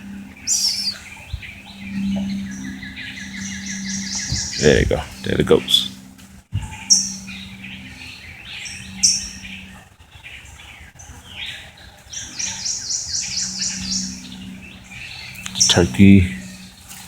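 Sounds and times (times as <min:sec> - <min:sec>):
birds chirping: 0:00.0 - 0:17.0
faint low hum: 0:00.0 - 0:17.0.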